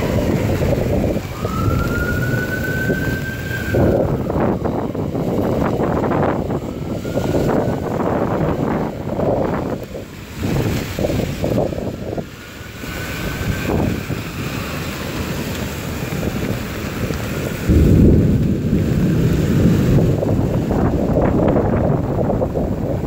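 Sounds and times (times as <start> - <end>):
deep thunder rumble: 0.0 - 12.3, 13.2 - 23.0
cars passing on wet street: 0.0 - 23.0
gusty wind buffeting microphone: 0.0 - 23.0
rain: 0.0 - 23.0.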